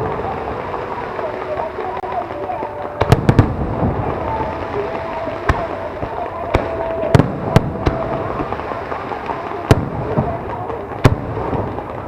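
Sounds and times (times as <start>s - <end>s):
fireworks bangs: 0.0s - 12.0s
fireworks crackle and rumble: 0.0s - 12.0s.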